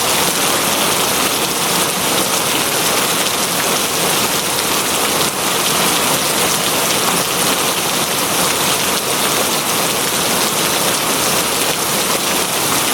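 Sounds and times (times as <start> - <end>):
heavy rain hissing: 0.0 - 12.9.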